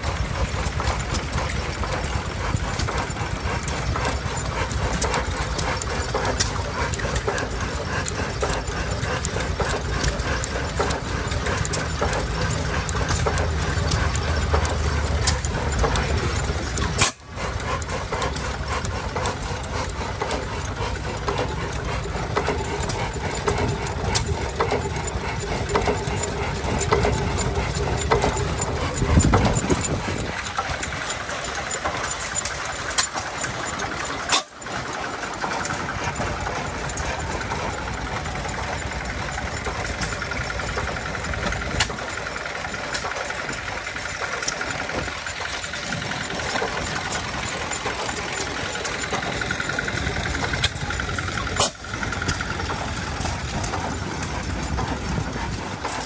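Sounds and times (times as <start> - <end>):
stationary engine clattering: 0.0 - 56.0
sharp engine knocks: 0.1 - 56.0.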